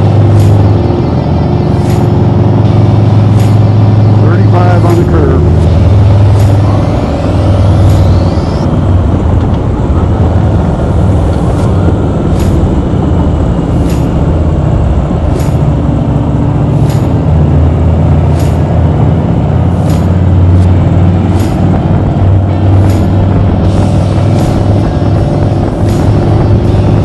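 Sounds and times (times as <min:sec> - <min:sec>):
motorcycle engine cruising: 0:00.0 - 0:27.0
rising whine: 0:00.0 - 0:27.0
wind and road noise: 0:00.0 - 0:27.0.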